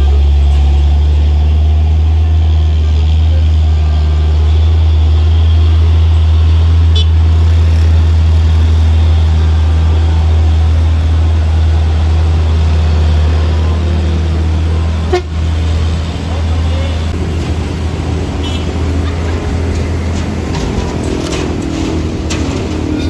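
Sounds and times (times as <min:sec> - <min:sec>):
vehicle engines droning: 0:00.0 - 0:23.0.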